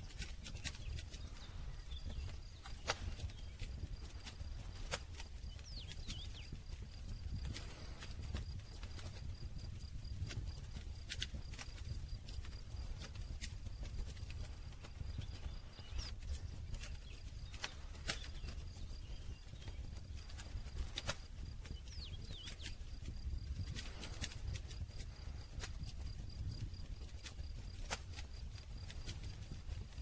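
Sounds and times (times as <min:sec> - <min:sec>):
campfire crackling and popping: 0:00.0 - 0:30.0
low rumble of flames: 0:00.0 - 0:30.0.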